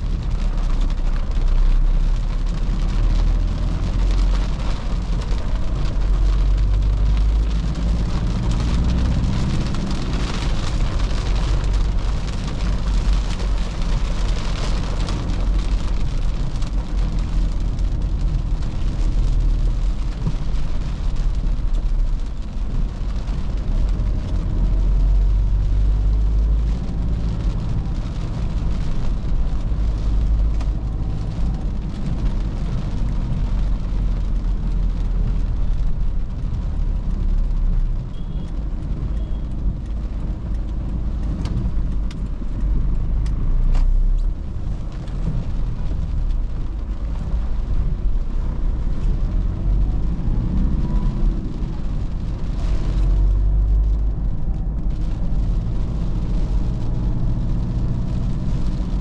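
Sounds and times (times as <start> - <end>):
tyre and road noise: 0.0 - 59.0.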